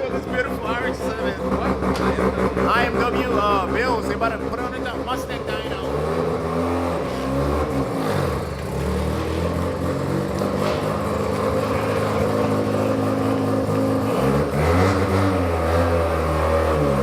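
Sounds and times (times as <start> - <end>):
rotary engine idling: 0.0 - 14.8.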